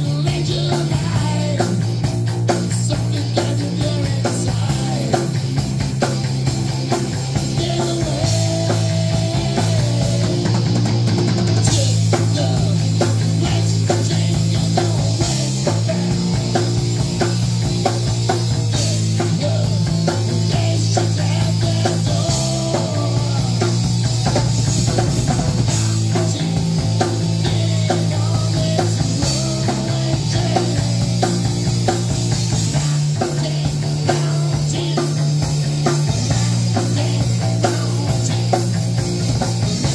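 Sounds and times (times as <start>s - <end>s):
drum kit: 0.0s - 39.9s
electric guitars: 0.0s - 39.9s.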